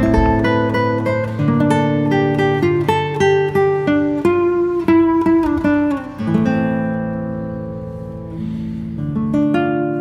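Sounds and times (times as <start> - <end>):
acoustic guitar picking: 0.0 - 10.0.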